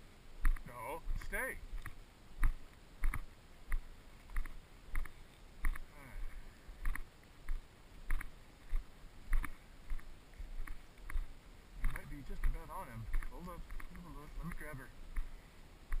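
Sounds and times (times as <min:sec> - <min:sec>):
footsteps through field cover: 0:00.0 - 0:16.0.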